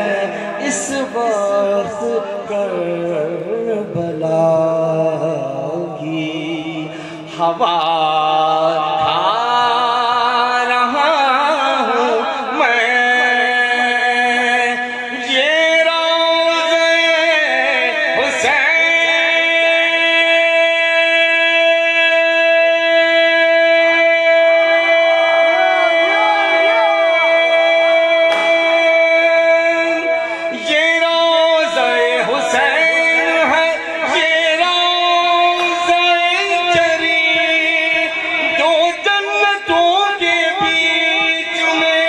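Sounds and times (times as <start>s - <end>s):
man singing into a microphone: 0.0s - 42.0s.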